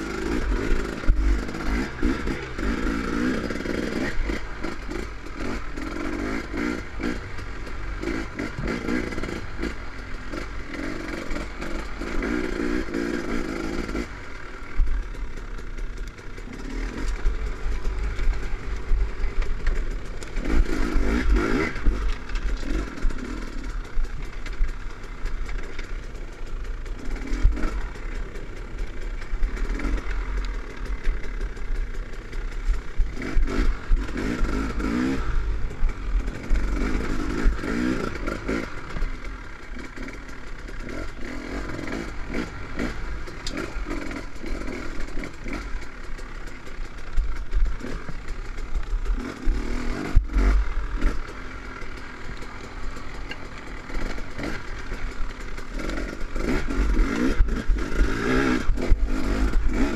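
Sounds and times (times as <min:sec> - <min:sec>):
two-stroke dirt bike engine revving: 0:00.0 - 0:59.9.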